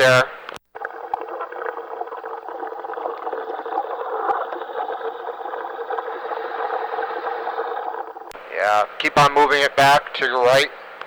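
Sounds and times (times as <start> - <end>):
underwater bubbling over radio: 0.0 - 11.0.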